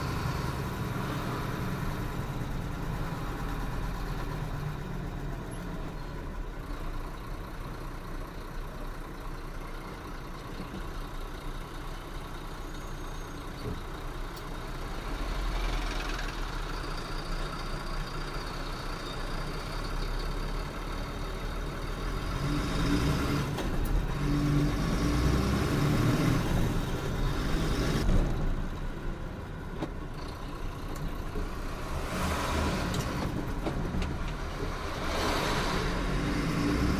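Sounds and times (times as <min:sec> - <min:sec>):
road noise: 0:00.0 - 0:36.9
truck engine: 0:00.0 - 0:36.9.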